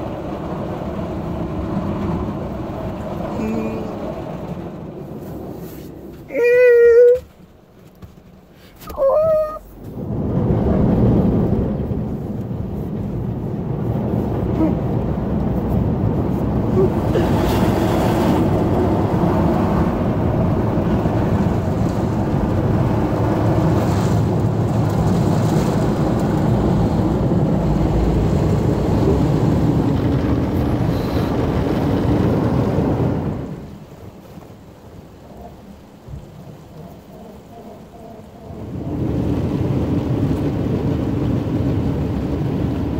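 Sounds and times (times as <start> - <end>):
car wash brushes rushing: 0.0 - 42.9.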